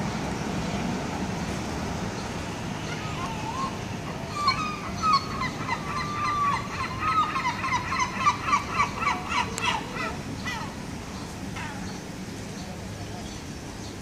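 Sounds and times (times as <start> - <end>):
city traffic hum: 0.0 - 14.0
gulls calling: 2.1 - 14.0.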